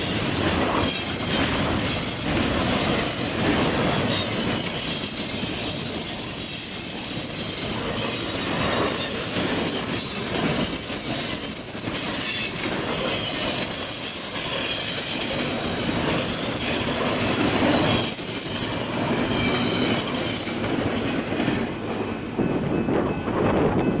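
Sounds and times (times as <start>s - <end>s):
freight train rumbling: 0.0s - 24.0s
wheels clacking on rail joints: 0.0s - 24.0s
wheel squeal: 0.7s - 22.4s.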